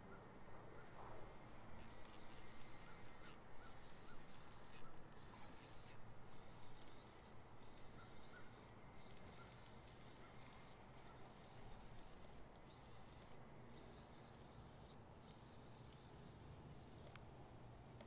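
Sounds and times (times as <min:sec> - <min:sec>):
fishing reel whirring: 0:01.8 - 0:17.2
soft chirps: 0:01.8 - 0:17.2.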